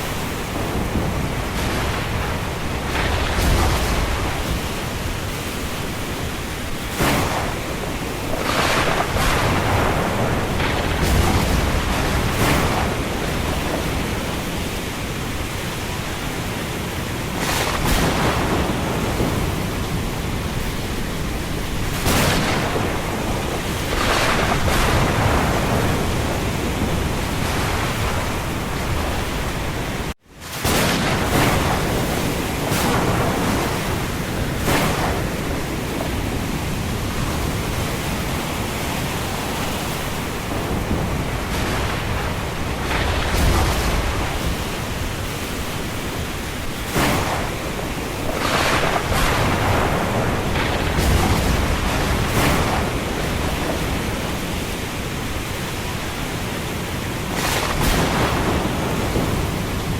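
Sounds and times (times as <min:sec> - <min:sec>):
rain: 0:00.0 - 0:59.9
wind gusts: 0:00.0 - 0:59.9.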